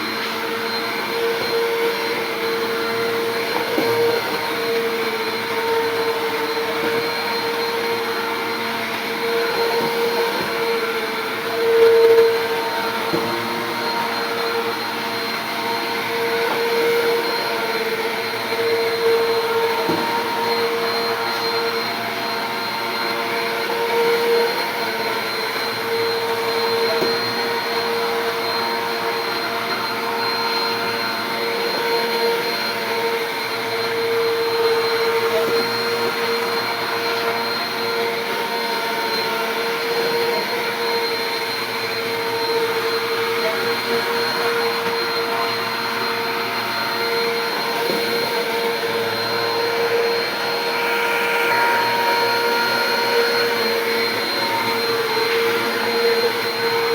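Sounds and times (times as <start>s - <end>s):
upright vacuum cleaner running: 0.0s - 56.9s.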